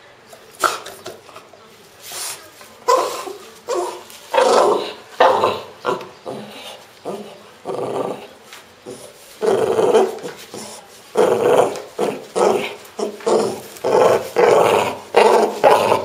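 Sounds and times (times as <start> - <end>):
dog growling: 2.9 - 16.0.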